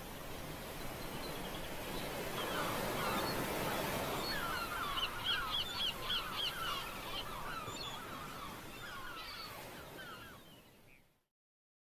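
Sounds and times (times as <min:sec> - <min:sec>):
ocean waves breaking on rocks: 0:00.0 - 0:10.3.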